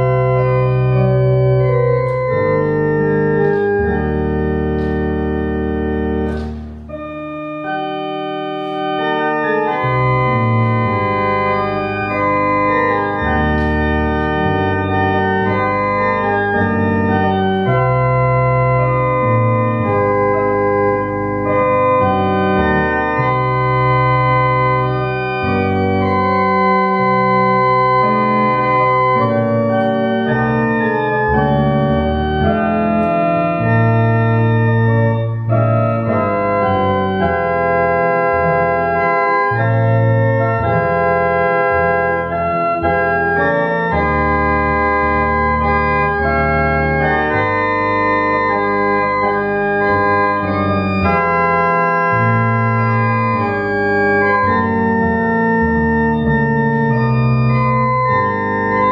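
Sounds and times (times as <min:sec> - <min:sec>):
church organ playing hymn: 0:00.0 - 0:58.9.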